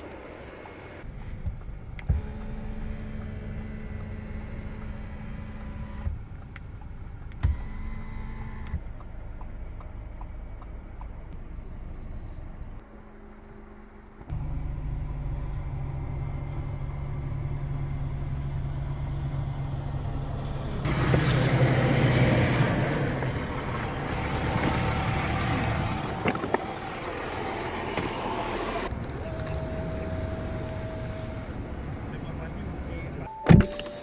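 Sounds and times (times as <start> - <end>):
car exhaust idling and revving: 1.0 - 33.2.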